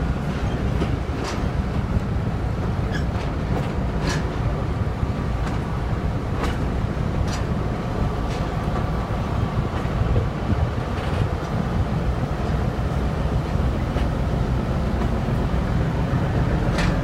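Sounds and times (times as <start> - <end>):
train low rumble: 0.0 - 17.0
wheels clicking over rail joints: 0.0 - 17.0.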